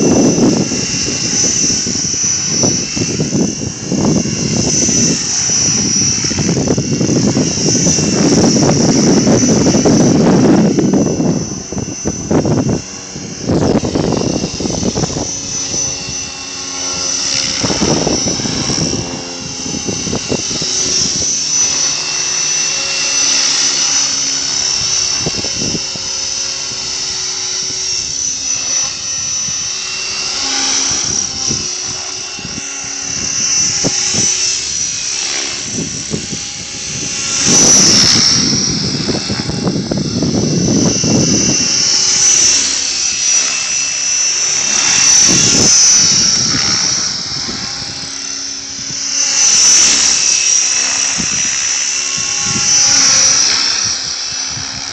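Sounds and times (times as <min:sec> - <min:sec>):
model helicopter rotor whine: 0:00.0 - 0:54.9
wind buffeting microphone: 0:00.0 - 0:54.9.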